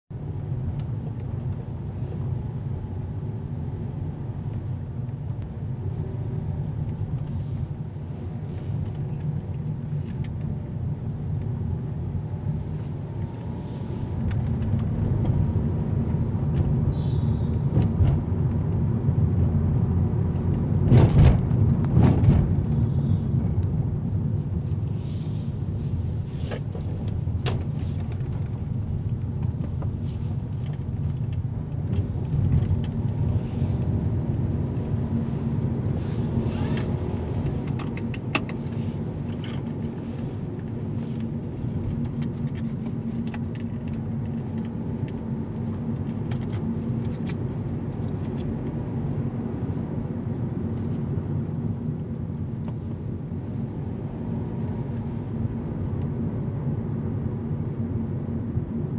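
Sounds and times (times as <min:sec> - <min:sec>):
engine and road rumble: 0:00.0 - 0:58.9
constant low hum: 0:00.1 - 0:58.9.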